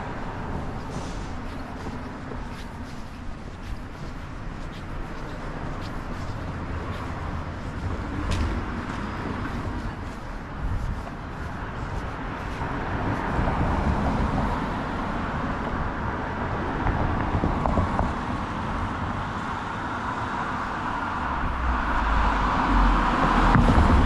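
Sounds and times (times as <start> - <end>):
passing cars rumbling: 0.0 - 24.0
vehicle low rumble: 0.0 - 24.0.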